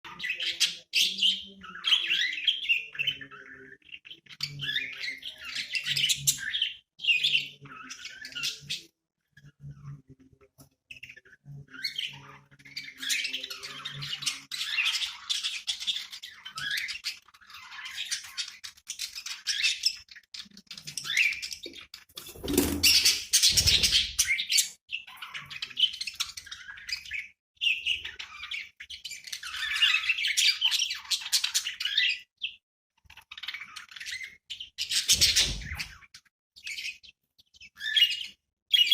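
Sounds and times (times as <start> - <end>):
budgerigars chirping: 0.1 - 9.9, 10.9 - 32.6.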